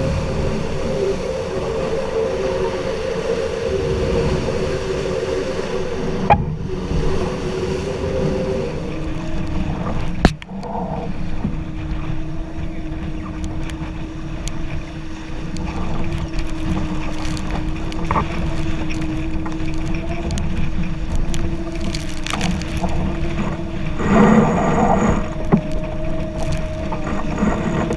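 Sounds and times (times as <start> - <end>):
steady hum: 0.0 - 27.9
water rushing past boat: 0.0 - 27.9
wind buffeting microphone: 0.0 - 27.9.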